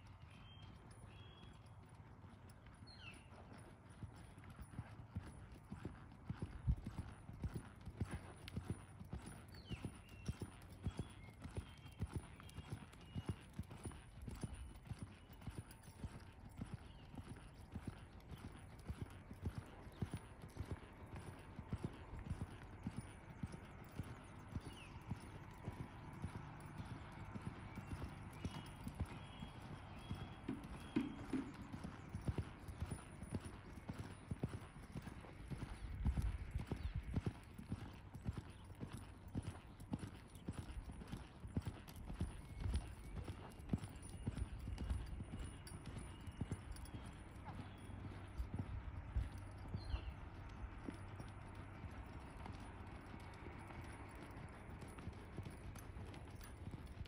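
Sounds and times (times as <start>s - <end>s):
horse hoofbeats on dirt: 0.0s - 57.0s.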